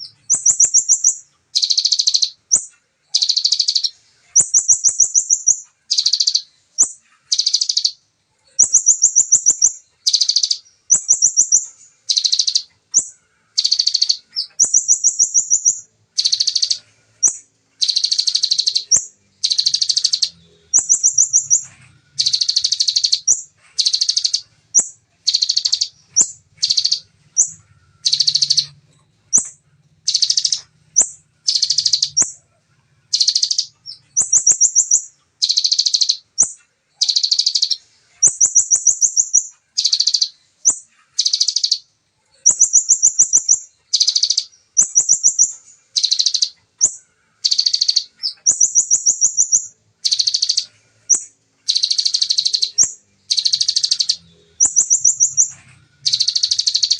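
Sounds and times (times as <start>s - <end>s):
bird trilling song: 0.0s - 56.9s.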